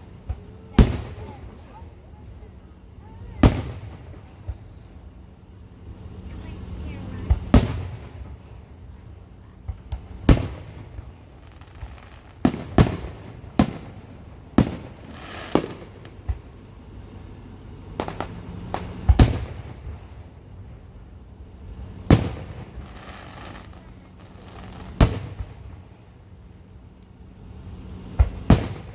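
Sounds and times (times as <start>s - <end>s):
fireworks booming: 0.0s - 28.9s
fireworks crackling hiss: 0.0s - 28.9s.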